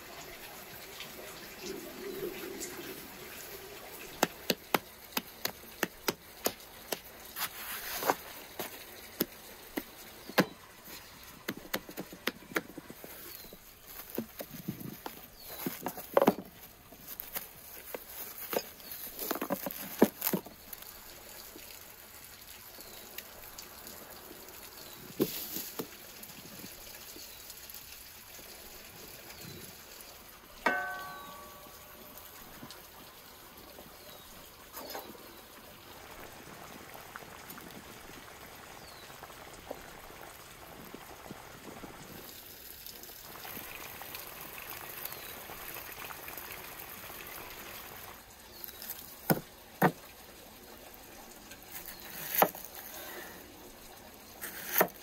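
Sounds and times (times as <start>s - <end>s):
broth splashing and dripping: 0.0s - 55.0s.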